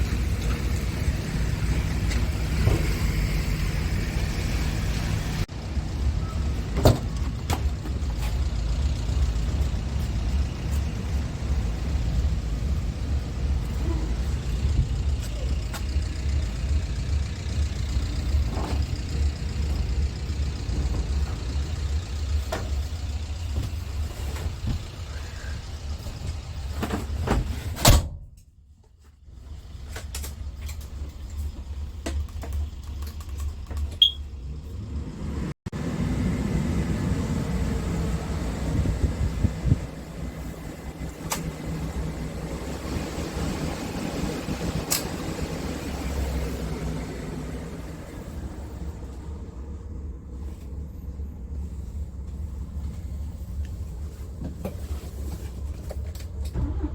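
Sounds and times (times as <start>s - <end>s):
diesel engine idling: 0.0s - 27.2s, 30.3s - 56.9s.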